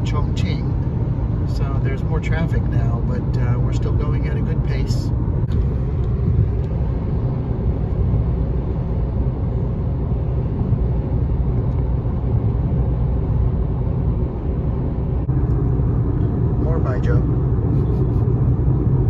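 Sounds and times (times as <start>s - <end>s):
car road noise rumble: 0.0s - 19.0s.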